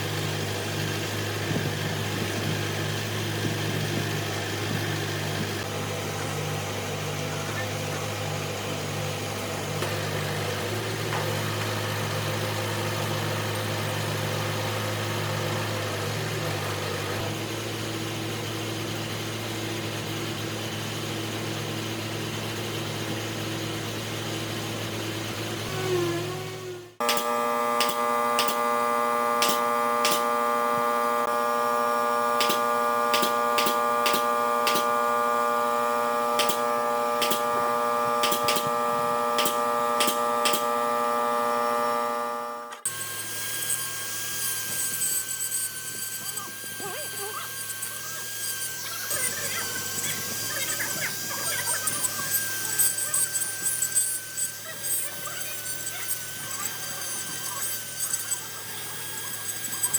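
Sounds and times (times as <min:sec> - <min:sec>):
motor running low: 0:00.0 - 0:59.9
power tool high whine: 0:00.0 - 0:59.9.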